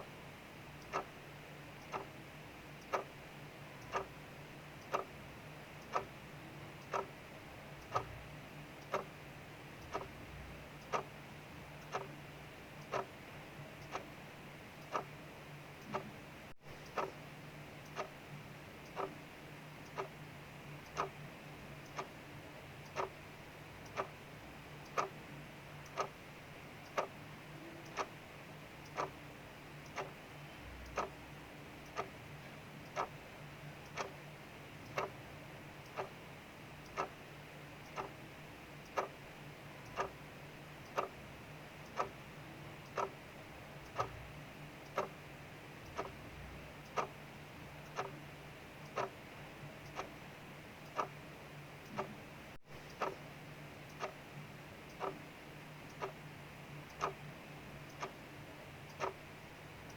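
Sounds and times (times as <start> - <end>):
clock ticking: 0.6 - 59.9.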